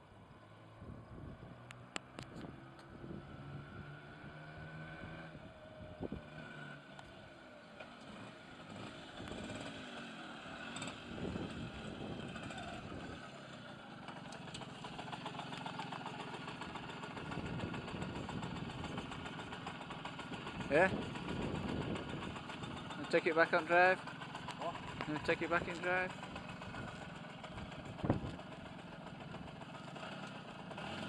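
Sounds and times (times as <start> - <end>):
two-stroke moped engine running: 1.7 - 31.0.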